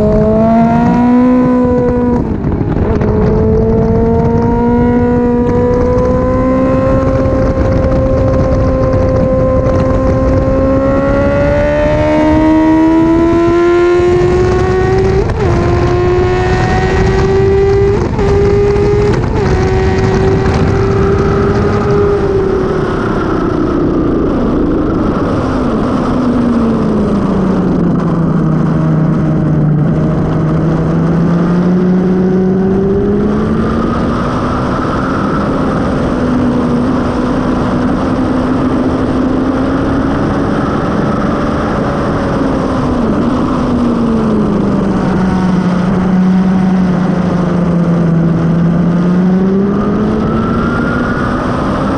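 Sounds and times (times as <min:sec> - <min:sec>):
motorcycle engine at high revs: 0:00.0 - 0:51.9
wind rush: 0:00.0 - 0:51.9.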